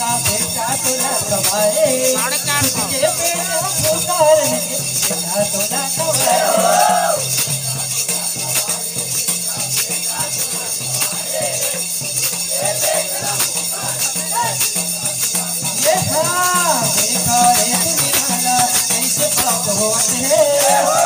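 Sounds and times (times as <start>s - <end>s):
bright jingling bells: 0.0s - 21.0s
repeating drum beat: 0.0s - 21.0s.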